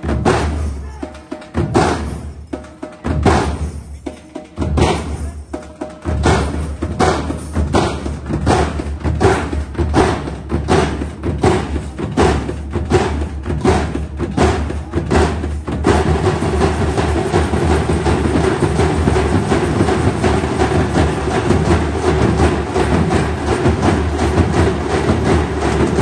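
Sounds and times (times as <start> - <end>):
drum band playing: 0.0 - 26.0.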